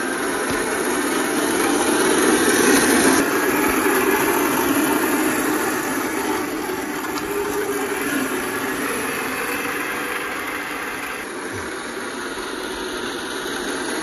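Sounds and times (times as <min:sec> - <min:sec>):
small electric motor running: 0:00.0 - 0:14.0.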